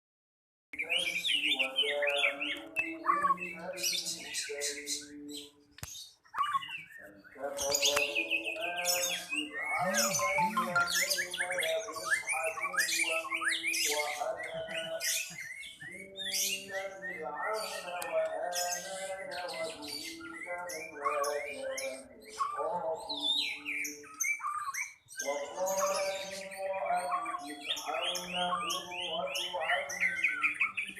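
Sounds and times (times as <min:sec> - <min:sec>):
songbirds singing in chorus: 0:00.8 - 0:30.9.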